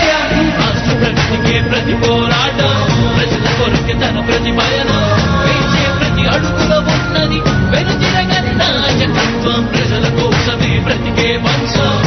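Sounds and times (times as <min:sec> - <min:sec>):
upbeat song with singing: 0:00.0 - 0:12.0.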